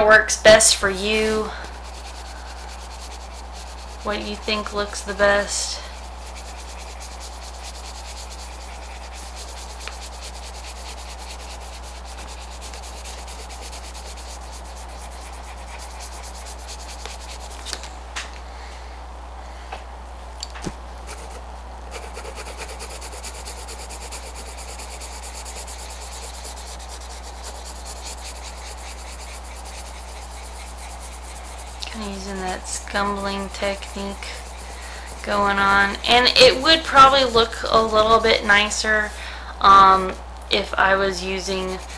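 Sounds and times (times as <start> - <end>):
steady low hum: 0.0 - 41.9
pencil scratching on paper: 0.9 - 17.8, 21.0 - 40.0, 40.6 - 41.9.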